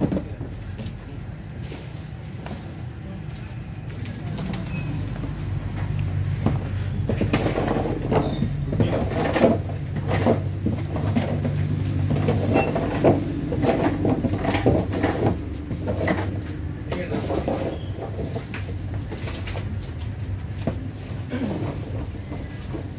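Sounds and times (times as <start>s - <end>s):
objects knocking and clattering: 0.0s - 1.2s, 4.2s - 22.9s.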